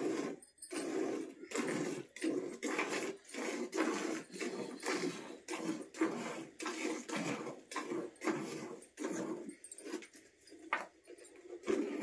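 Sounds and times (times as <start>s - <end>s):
milk squirting into a pail: 0.0s - 12.0s.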